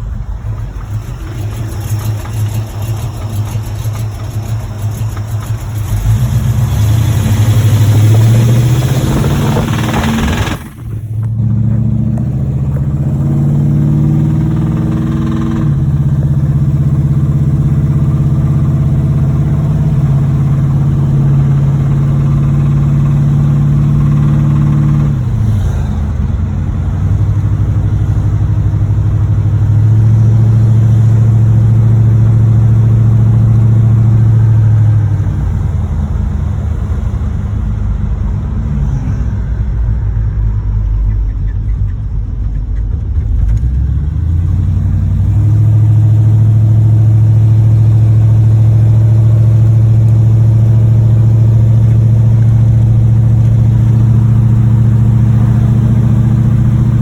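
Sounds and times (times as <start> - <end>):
car engine under load: 0.0 - 57.0.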